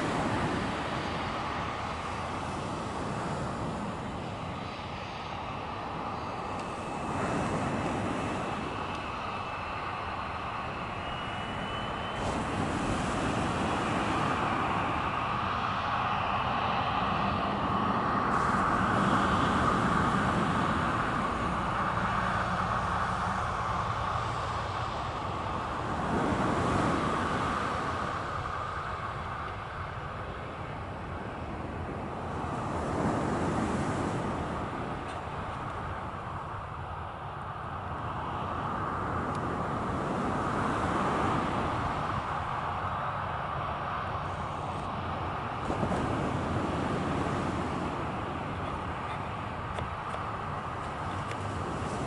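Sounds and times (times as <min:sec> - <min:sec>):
jet engines whining and rumbling: 0:00.0 - 0:52.0.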